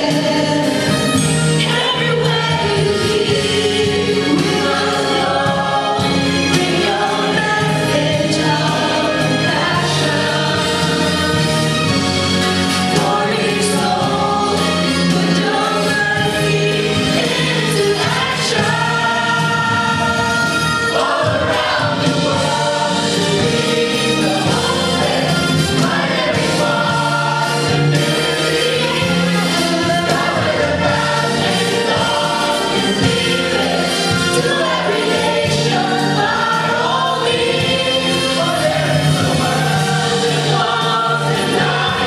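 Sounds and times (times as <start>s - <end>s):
choir singing in sustained chords: 0.0s - 42.0s.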